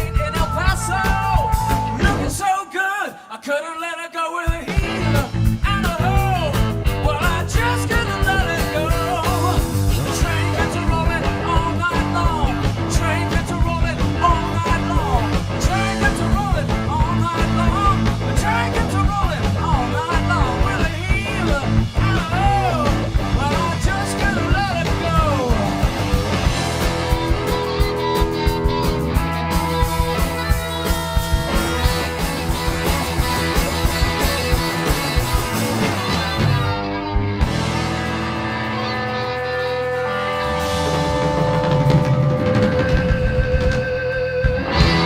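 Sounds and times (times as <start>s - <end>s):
bass and drum beat: 0.0s - 2.4s, 4.5s - 45.0s
electric guitar lead with bends: 4.7s - 45.0s.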